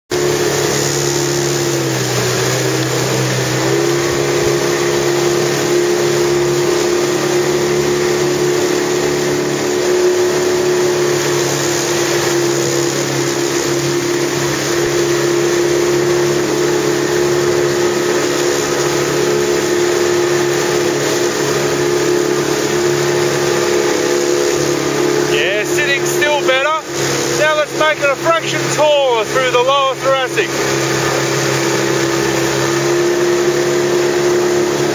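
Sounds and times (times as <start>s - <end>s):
motorboat engine running: 0.1s - 34.9s.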